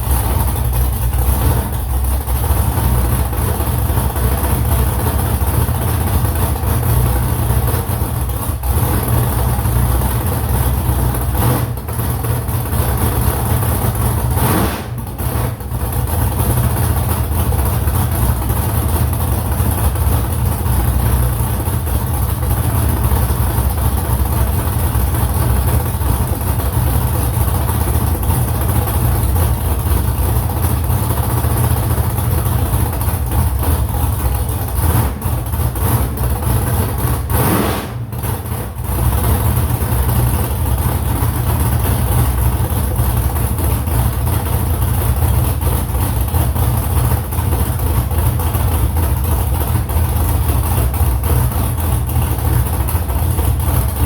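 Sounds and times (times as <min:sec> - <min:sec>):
vehicle engine rumbling: 0:00.0 - 0:54.0.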